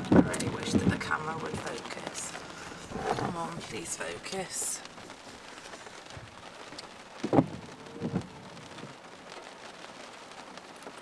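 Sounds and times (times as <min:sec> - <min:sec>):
rain falling on a car: 0:00.0 - 0:11.0.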